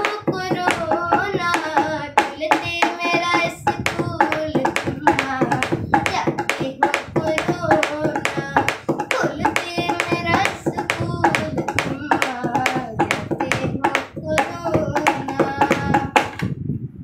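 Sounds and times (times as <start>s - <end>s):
boy singing: 0.0s - 16.5s
hand beating time: 0.0s - 16.5s.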